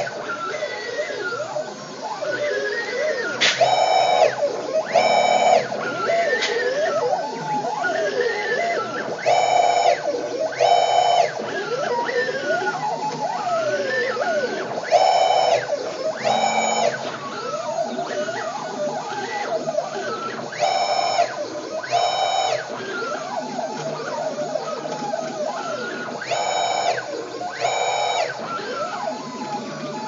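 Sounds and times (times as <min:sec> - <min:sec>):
louder steady motor tones: 0:00.0 - 0:30.0
stepper motors whining: 0:00.0 - 0:30.0.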